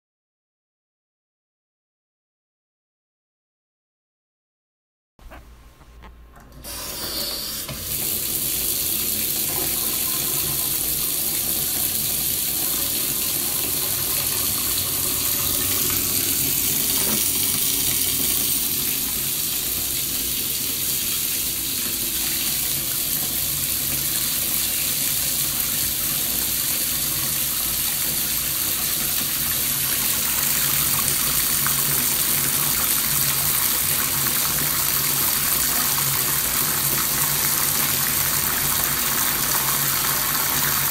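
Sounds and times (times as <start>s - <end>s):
water pouring into bathtub: 6.6s - 40.9s.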